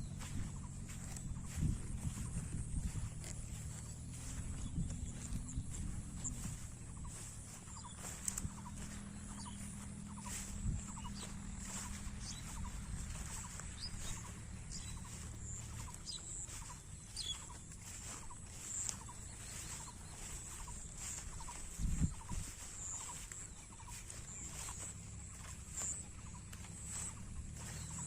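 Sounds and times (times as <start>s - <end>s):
small animal calls: 0.0s - 28.0s.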